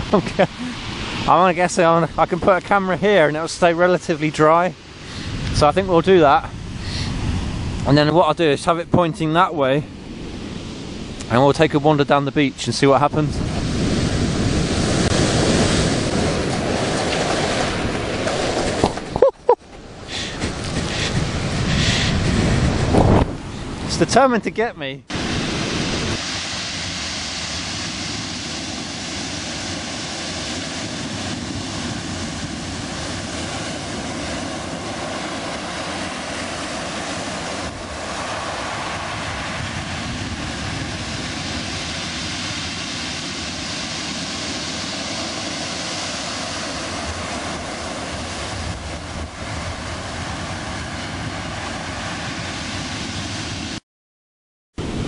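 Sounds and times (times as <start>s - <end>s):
waves breaking on shingle beach: 0.0s - 24.4s, 25.1s - 53.8s.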